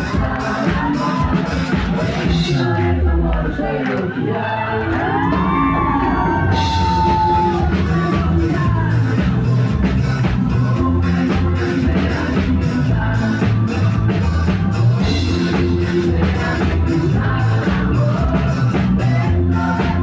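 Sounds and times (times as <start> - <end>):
drum kit beat: 0.0 - 3.8, 5.0 - 20.0
low bass notes: 0.0 - 20.0
rock band playing: 0.0 - 20.0.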